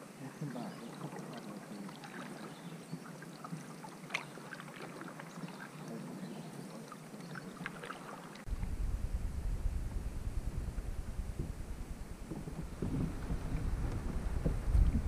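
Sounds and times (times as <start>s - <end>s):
paddle splashing water: 0.0s - 8.6s, 10.8s - 15.0s.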